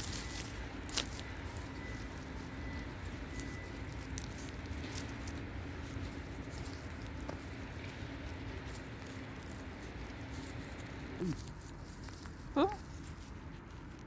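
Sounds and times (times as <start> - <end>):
crackles on forest floor: 0.0 - 14.0.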